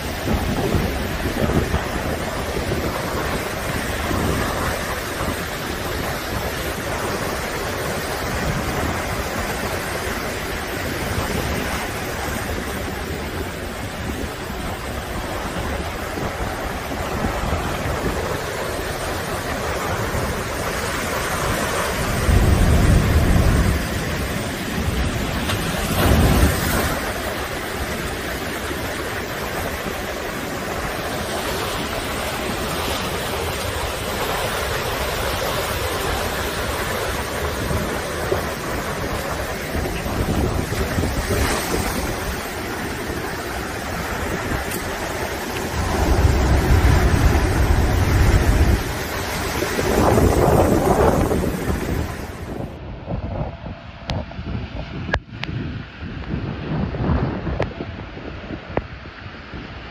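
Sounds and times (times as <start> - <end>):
heavy surf rushing: 0.0 - 59.9
wind on microphone: 0.0 - 59.9.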